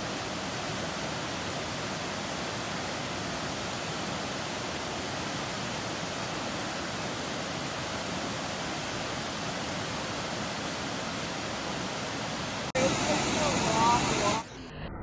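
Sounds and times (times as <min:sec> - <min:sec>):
waterfall rushing: 0:00.0 - 0:14.5.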